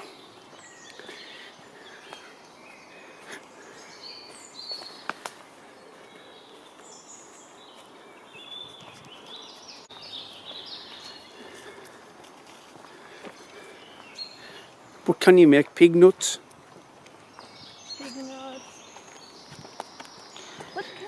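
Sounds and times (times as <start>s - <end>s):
small birds chirping and singing: 0.0s - 21.0s
steady outdoor hiss: 0.0s - 21.0s.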